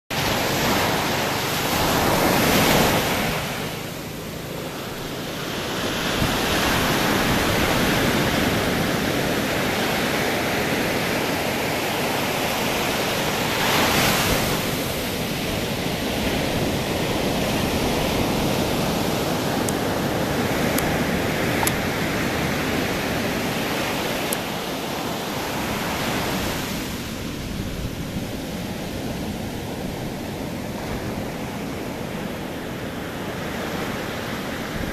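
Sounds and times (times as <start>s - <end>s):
ocean surf on sandy beach: 0.1s - 34.9s.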